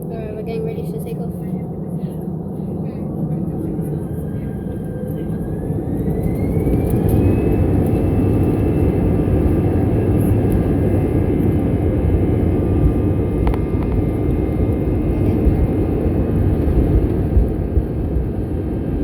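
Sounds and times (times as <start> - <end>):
jet engine rumble and whine: 0.0 - 19.0.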